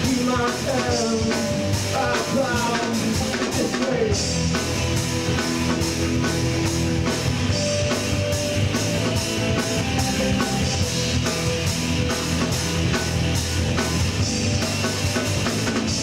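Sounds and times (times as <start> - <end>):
drum kit beat: 0.0 - 16.0
electric guitar: 0.0 - 16.0.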